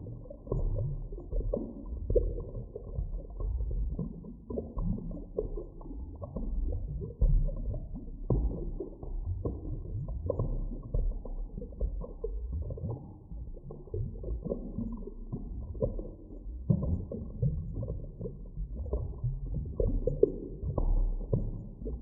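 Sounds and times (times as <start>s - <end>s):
deep dull underwater rumble: 0.0s - 22.0s.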